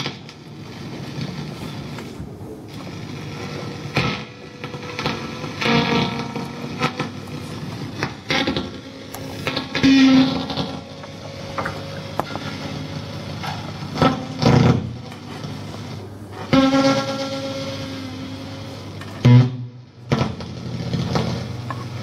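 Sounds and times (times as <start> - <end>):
electric guitar noise: 0.0 - 22.0.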